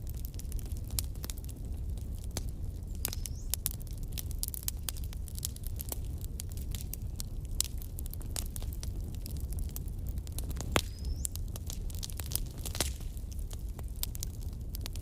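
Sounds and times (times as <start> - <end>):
bonfire flame rumble: 0.0 - 15.0
fire crackling and popping: 0.0 - 15.0.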